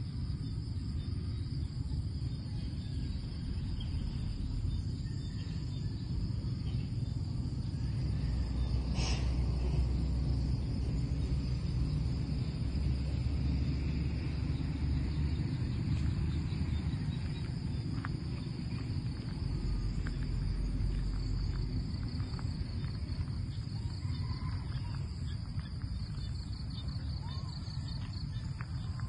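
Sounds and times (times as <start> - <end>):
insect chorus: 0.0 - 29.0
low rumble: 0.0 - 29.0.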